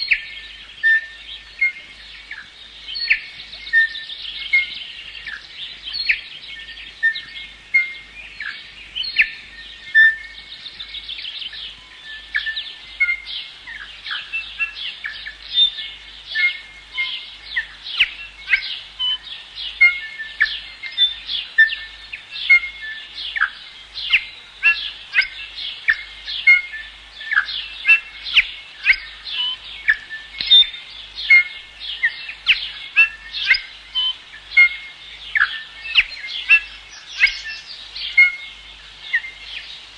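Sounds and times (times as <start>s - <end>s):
chorus of birdsong: 0.0s - 39.9s.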